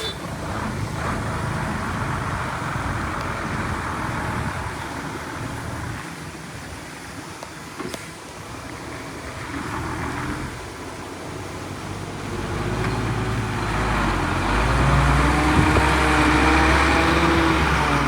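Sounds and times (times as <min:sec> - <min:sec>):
heavy diesel engine running: 0:00.0 - 0:06.0, 0:08.9 - 0:18.0.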